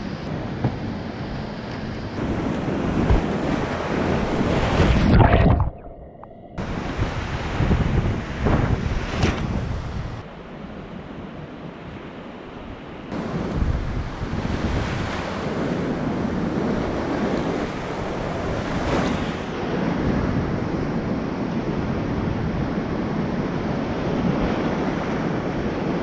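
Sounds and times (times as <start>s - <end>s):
wind buffeting microphone: 0.0s - 10.3s, 13.1s - 26.0s.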